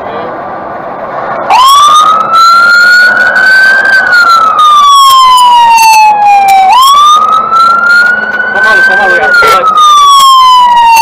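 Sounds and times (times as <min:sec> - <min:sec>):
fire engine siren wailing: 0:01.5 - 0:11.0.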